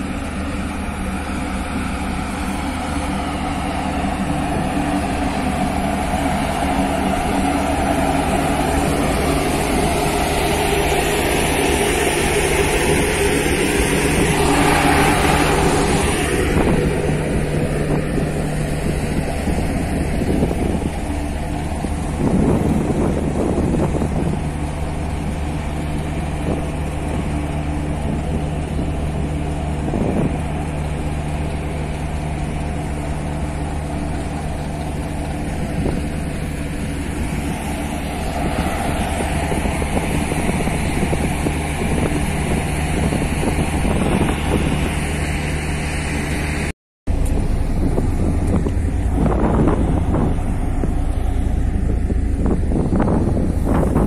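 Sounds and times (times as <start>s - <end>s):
ferry diesel engines droning: 0.0s - 54.0s
wind buffeting microphone: 0.0s - 54.0s.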